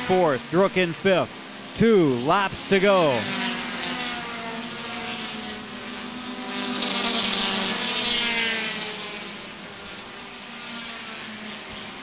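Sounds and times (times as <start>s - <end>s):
race cars passing at high revs: 0.0s - 12.0s.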